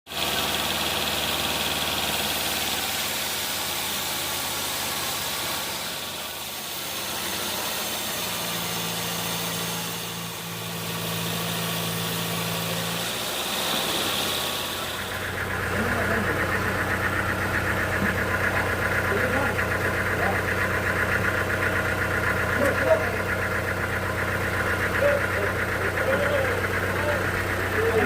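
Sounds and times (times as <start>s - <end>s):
sawmill engine running: 0.1s - 28.0s.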